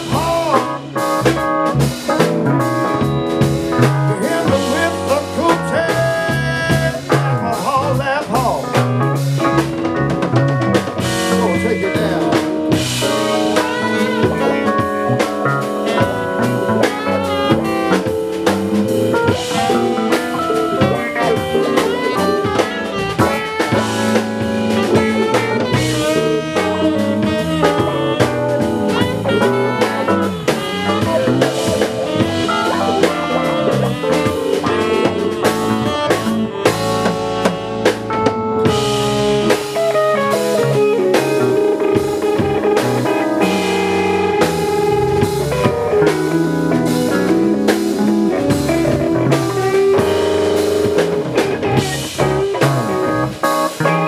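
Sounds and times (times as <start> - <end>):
drum rimshots: 0.0 - 54.0
live band playing: 0.0 - 54.0.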